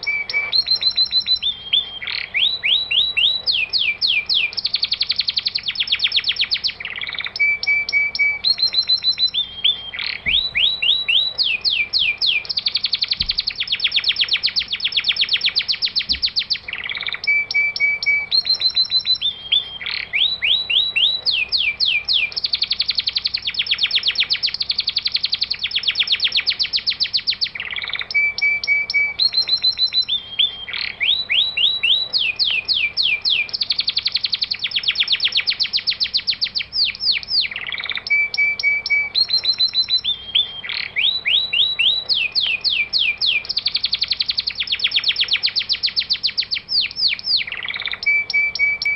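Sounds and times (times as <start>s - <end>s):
birdsong whistles and trills: 0.0s - 48.9s.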